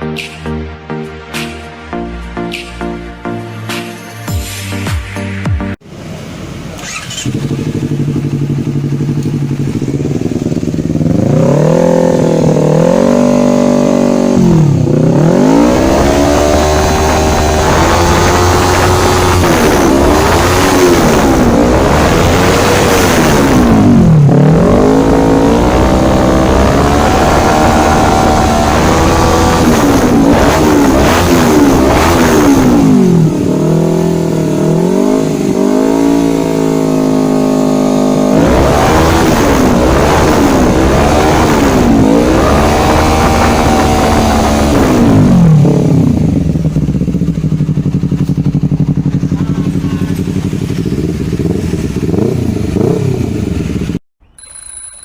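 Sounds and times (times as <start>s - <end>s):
motorcycle engine revving: 5.7s - 54.0s.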